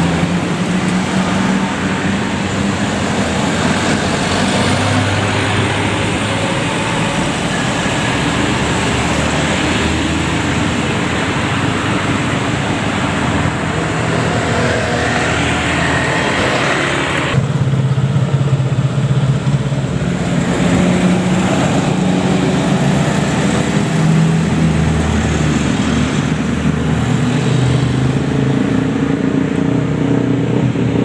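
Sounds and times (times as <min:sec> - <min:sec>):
heavy vehicle engine running: 0:00.0 - 0:31.0
road noise: 0:00.0 - 0:31.0.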